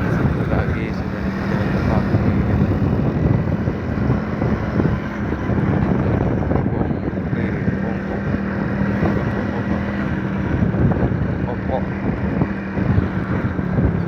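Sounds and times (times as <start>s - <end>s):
engine hum: 0.0s - 14.0s
road noise: 0.0s - 14.0s
wind buffeting microphone: 0.0s - 14.0s.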